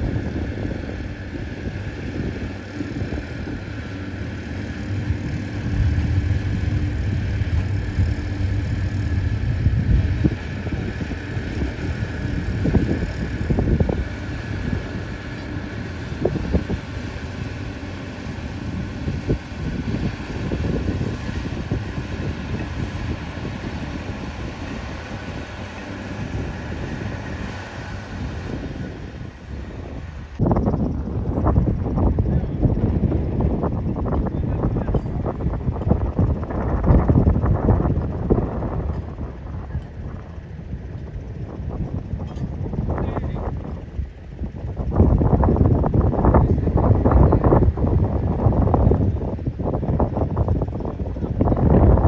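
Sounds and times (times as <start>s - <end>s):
low engine rumble: 0.0s - 52.0s
wind buffeting microphone: 0.0s - 52.0s.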